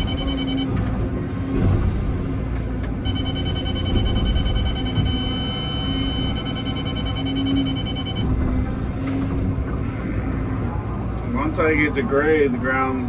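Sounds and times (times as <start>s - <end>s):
excavator engine and hydraulics: 0.0s - 13.0s.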